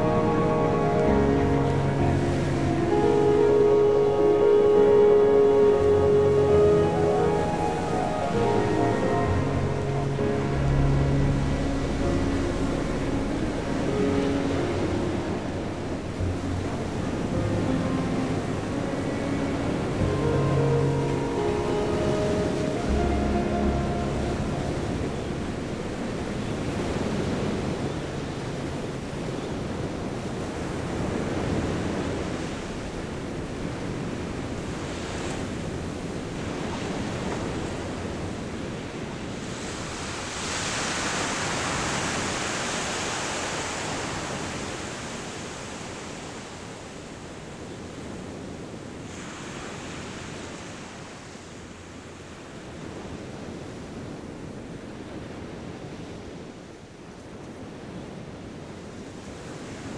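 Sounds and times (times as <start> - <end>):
sea waves on sandy beach: 0.0 - 56.5.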